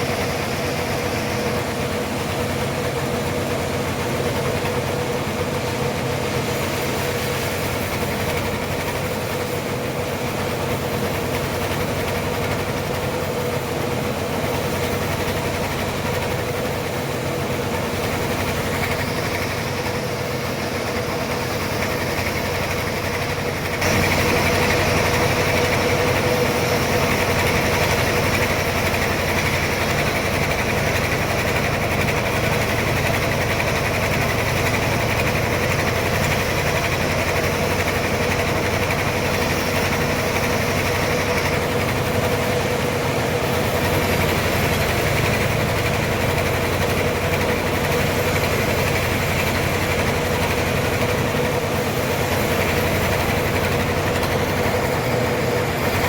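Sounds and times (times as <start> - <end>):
sawmill sawing log: 0.0 - 56.0.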